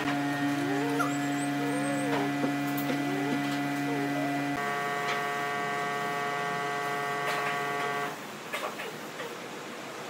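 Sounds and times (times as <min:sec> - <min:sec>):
hum of held tones: 0:00.0 - 0:08.2.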